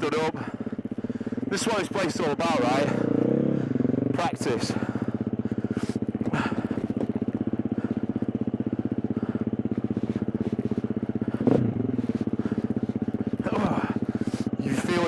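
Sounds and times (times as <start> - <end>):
dirt bike engine chugging: 0.0 - 15.0.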